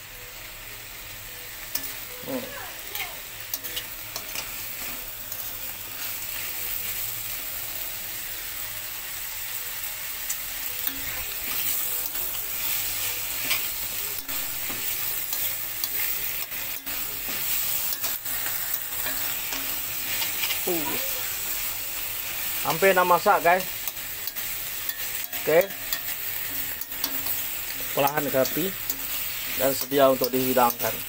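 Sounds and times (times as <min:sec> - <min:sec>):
greens sizzling in a pan: 0:00.0 - 0:31.0.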